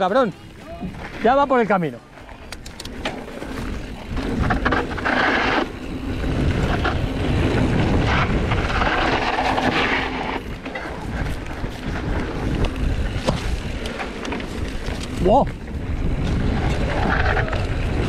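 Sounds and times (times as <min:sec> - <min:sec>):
bike clicks and rattles: 0:00.0 - 0:18.0
bike tyres crunching over dirt: 0:00.0 - 0:18.0
wind rushing over microphone: 0:03.3 - 0:18.0.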